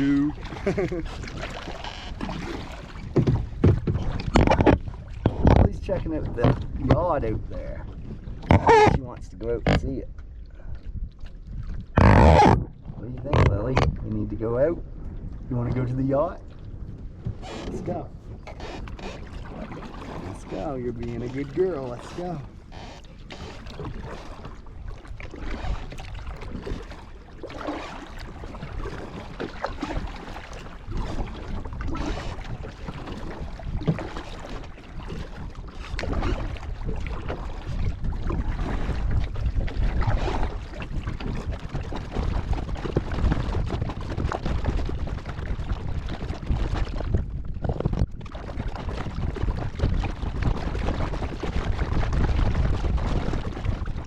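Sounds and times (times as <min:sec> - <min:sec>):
kayak paddle splashing in water: 0:00.0 - 0:10.0, 0:10.8 - 0:14.0, 0:16.4 - 0:54.0
wind buffeting microphone: 0:00.0 - 0:54.0.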